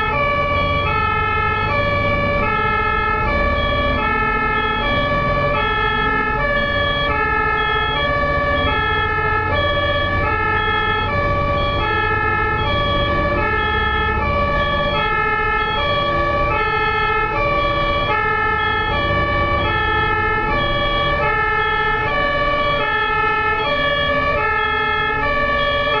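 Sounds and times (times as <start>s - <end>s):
two-tone emergency siren: 0.0s - 26.0s.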